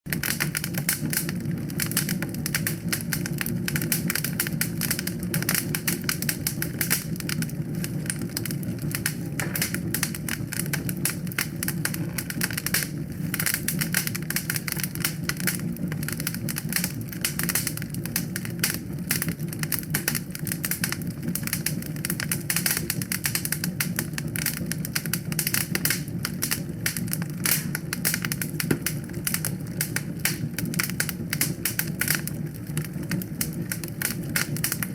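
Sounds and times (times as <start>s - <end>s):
low rumble of flames: 0.1s - 34.9s
wood fire crackling: 0.1s - 34.9s.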